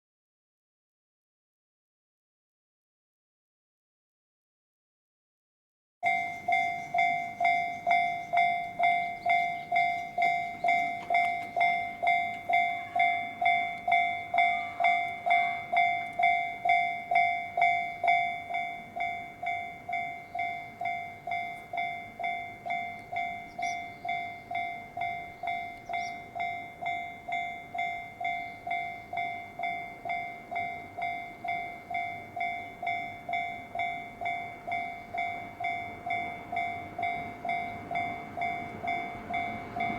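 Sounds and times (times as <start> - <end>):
level crossing warning bell: 6.0 - 39.9.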